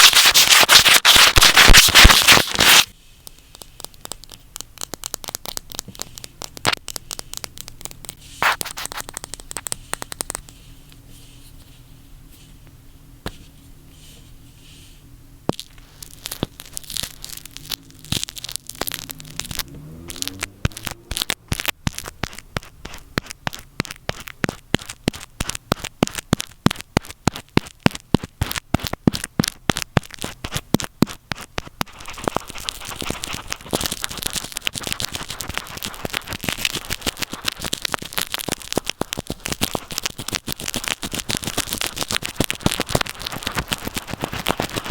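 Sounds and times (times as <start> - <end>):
scratching on earphone microphone: 0.0 - 2.9, 3.6 - 11.8, 15.5 - 44.9.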